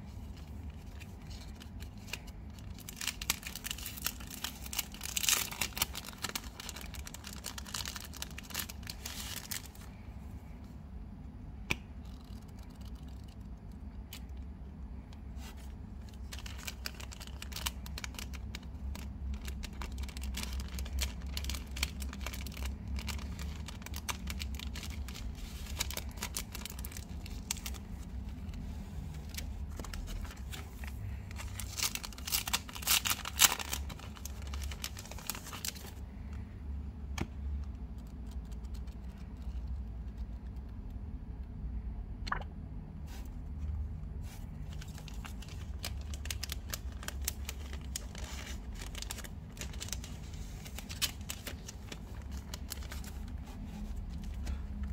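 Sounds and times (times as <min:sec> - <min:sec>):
steady low hum: 0:00.0 - 0:54.9
plastic wrapping crinkling and tearing: 0:00.1 - 0:10.0, 0:11.7 - 0:14.5, 0:15.3 - 0:36.5, 0:37.2 - 0:40.4, 0:44.2 - 0:54.9.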